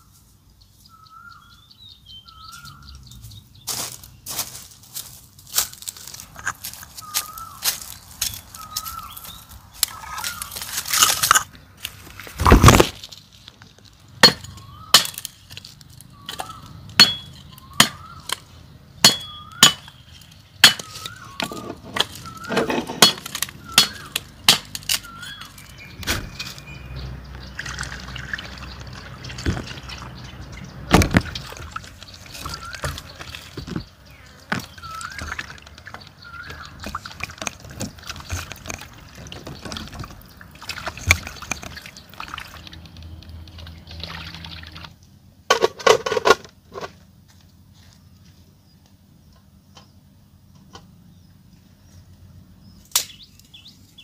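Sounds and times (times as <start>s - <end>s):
bird chirping: 0.0s - 11.1s, 13.2s - 44.0s, 48.6s - 54.0s.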